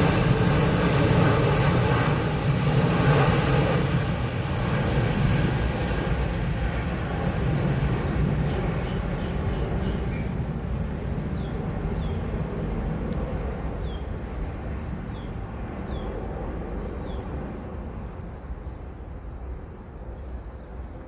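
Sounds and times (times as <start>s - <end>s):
jet airliner rumble climbing: 0.0s - 21.0s.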